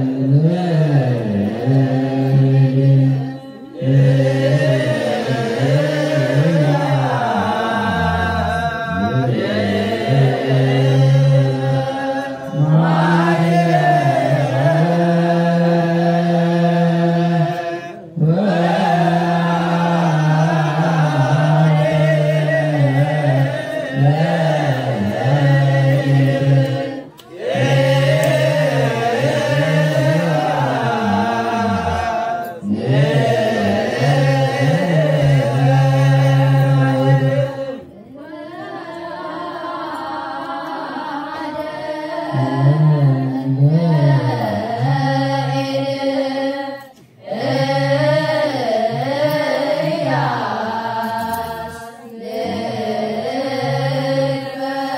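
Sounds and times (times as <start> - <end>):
group chanting a hymn in unison: 0.0 - 54.9.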